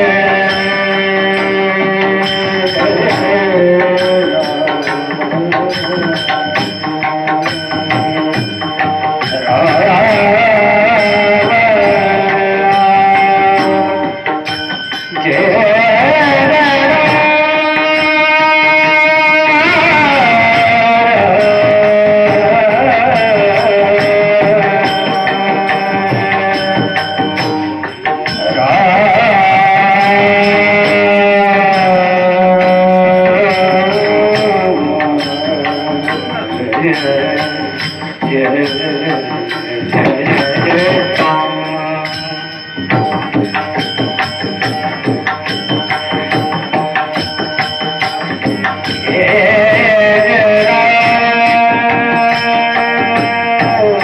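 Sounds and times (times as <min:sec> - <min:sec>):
hand drum playing: 0:00.0 - 0:54.0
person singing devotional song: 0:00.0 - 0:54.0.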